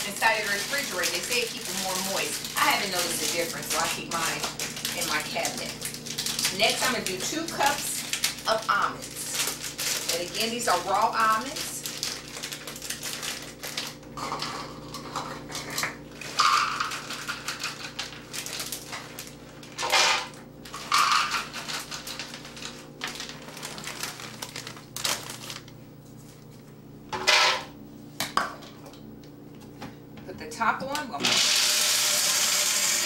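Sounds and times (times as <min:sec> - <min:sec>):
plastic bag crinkling: 0:00.0 - 0:26.7.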